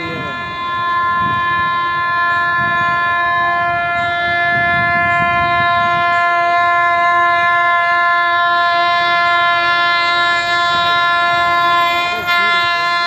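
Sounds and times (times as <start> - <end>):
train horn blast: 0.0 - 13.0.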